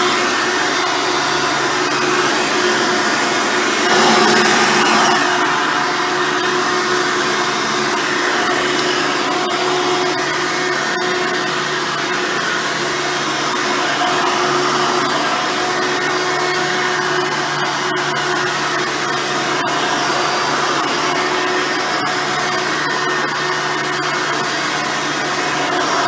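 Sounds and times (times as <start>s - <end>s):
vacuum cleaner humming: 0.0s - 22.3s.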